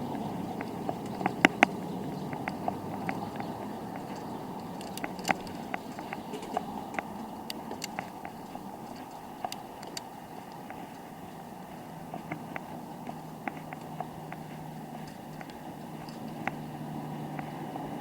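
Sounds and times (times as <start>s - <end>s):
bicycle tyres and wind rumble: 0.0s - 18.0s
bike clicks and rattles: 0.0s - 18.0s.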